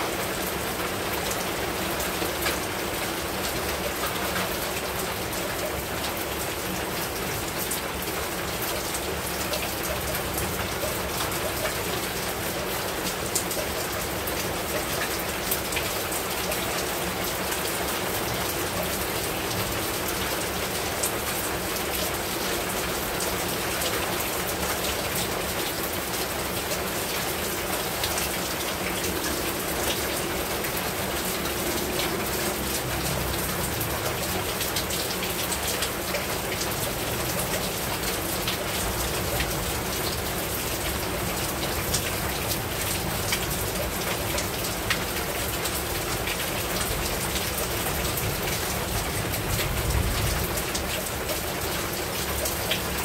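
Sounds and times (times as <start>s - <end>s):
heavy rain on a roof: 0.0s - 53.0s.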